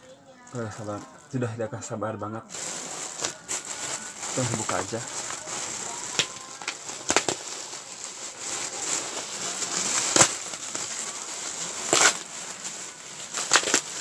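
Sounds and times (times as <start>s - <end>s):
plastic wrapping crinkling and tearing: 0.4s - 1.6s, 2.5s - 14.0s.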